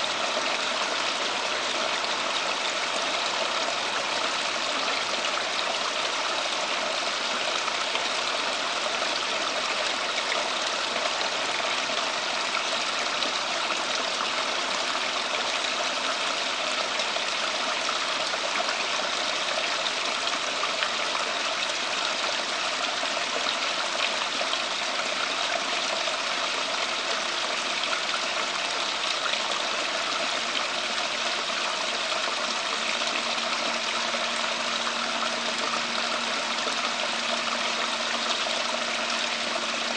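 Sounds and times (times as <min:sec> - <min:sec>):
water feature trickling: 0:00.0 - 0:39.9.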